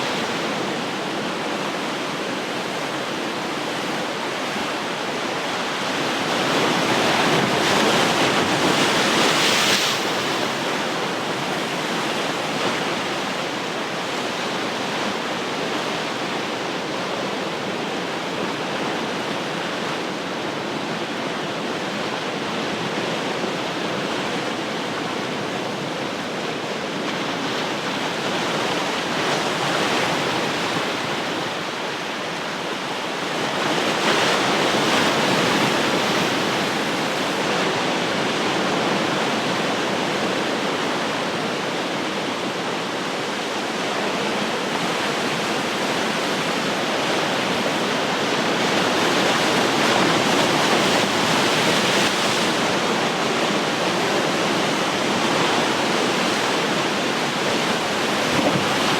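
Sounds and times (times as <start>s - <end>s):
ocean surf washing on shore: 0.0s - 58.9s.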